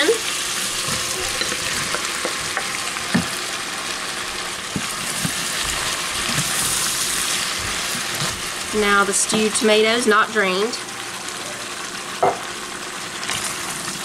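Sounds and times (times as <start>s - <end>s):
vegetables sizzling in a pot: 0.0s - 14.0s.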